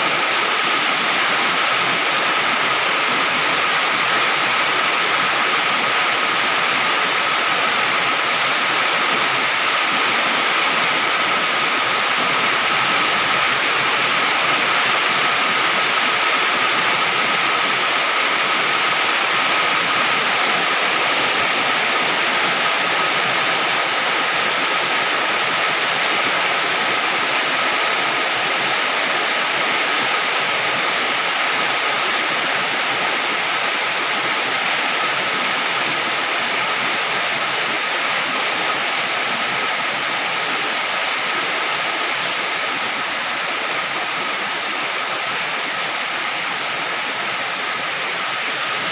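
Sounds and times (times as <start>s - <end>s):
rain on a metal roof: 0.0s - 48.9s.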